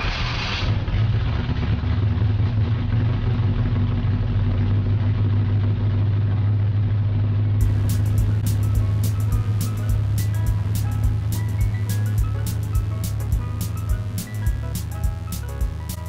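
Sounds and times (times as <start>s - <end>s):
engine idling: 0.7s - 16.0s.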